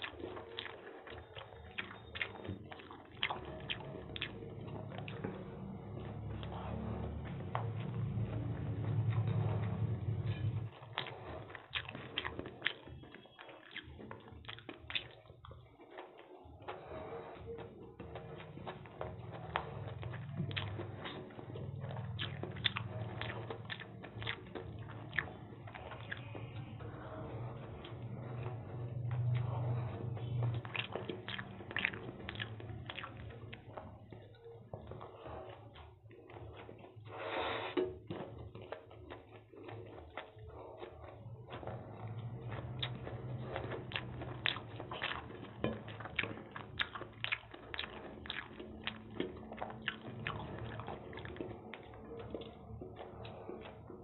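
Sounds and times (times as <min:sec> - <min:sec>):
lip smacks: 0:00.0 - 0:54.0
wet chewing: 0:00.0 - 0:54.0.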